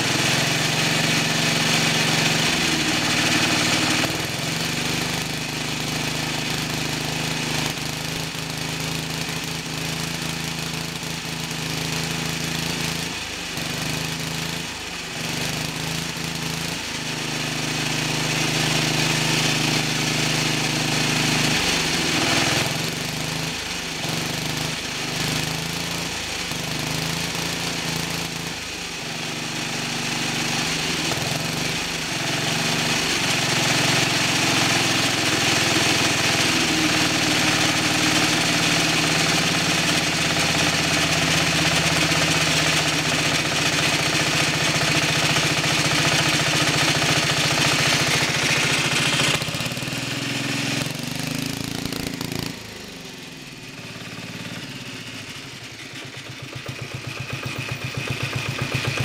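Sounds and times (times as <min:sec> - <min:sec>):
diesel engine running: 0:00.0 - 0:29.4, 0:30.3 - 0:59.0.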